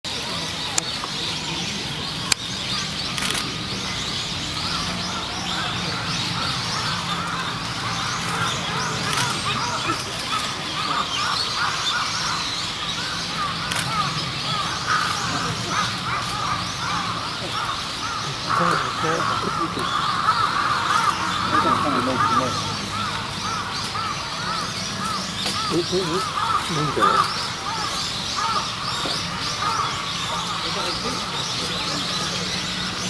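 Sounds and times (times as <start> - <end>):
birds chirping: 0.1 - 33.0.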